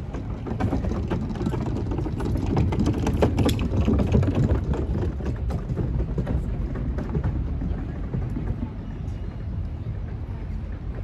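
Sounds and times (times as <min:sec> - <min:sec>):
bin cart wheels rolling on decking: 0:00.0 - 0:11.0.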